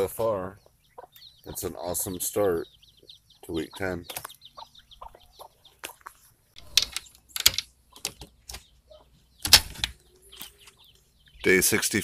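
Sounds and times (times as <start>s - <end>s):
chicks peeping and clucking: 0.0s - 12.0s.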